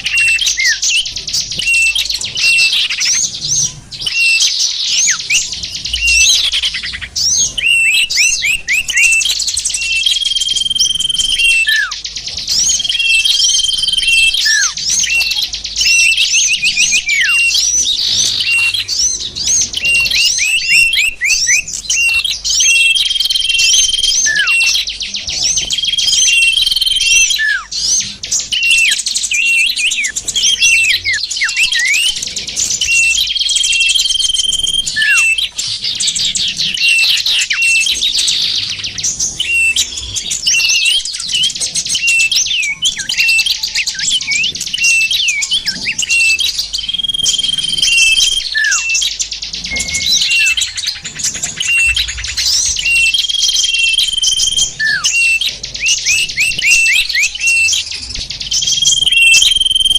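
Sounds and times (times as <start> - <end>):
falling bird whistles: 0.0 - 12.0, 12.6 - 32.2, 32.8 - 35.6, 39.4 - 59.9
songbirds chirping and twittering: 0.0 - 59.9.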